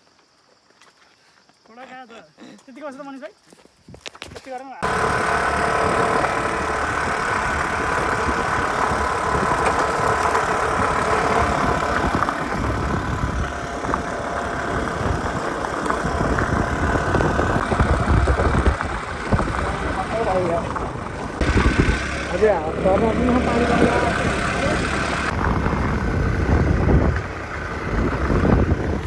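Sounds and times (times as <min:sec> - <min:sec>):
motorbike engine running: 0:04.8 - 0:29.0.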